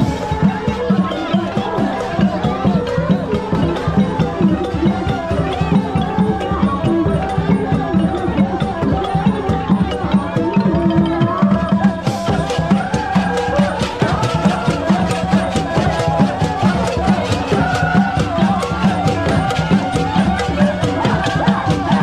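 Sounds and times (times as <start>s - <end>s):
traditional music with percussion: 0.0s - 22.0s.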